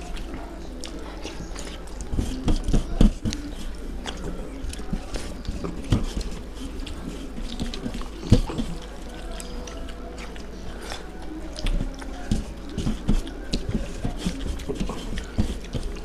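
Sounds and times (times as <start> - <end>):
chewing and lip smacks: 0.0 - 16.0
fingers squelching rice mash: 0.0 - 16.0.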